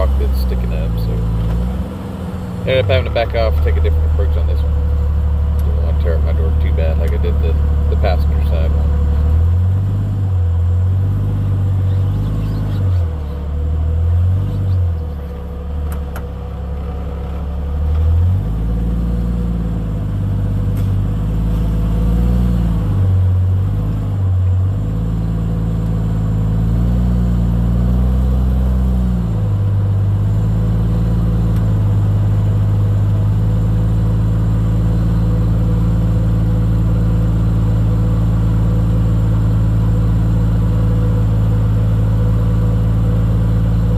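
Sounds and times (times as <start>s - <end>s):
engine revving at low speed: 0.0s - 43.9s.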